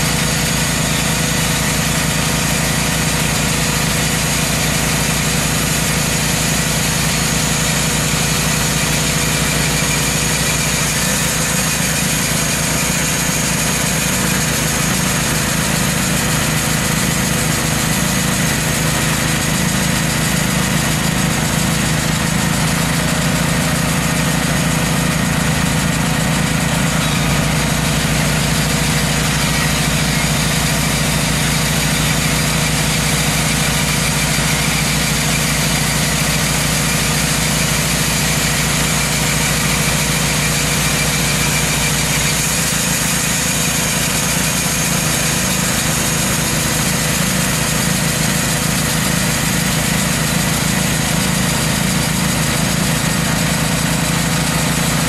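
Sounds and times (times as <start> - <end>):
band blade sawing log: 0.0 - 55.0
sawmill engine drone: 0.0 - 55.0.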